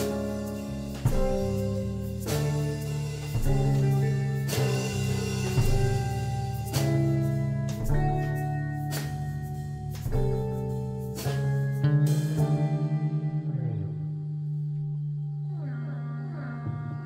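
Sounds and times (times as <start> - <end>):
ringing electric guitar chords: 0.0 - 17.0.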